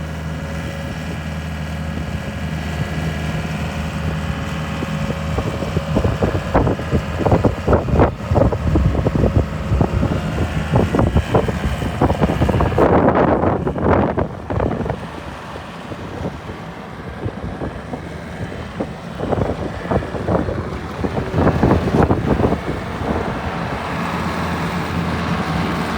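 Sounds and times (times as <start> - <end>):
skid steer loader engine: 0.0 - 25.9.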